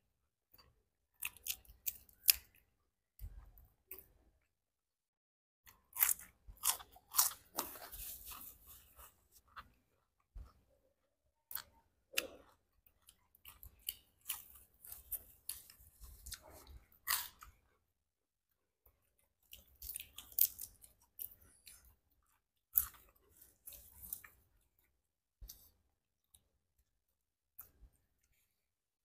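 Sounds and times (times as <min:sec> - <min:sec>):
chewing and crunching food: 0:00.5 - 0:04.5, 0:05.6 - 0:28.8.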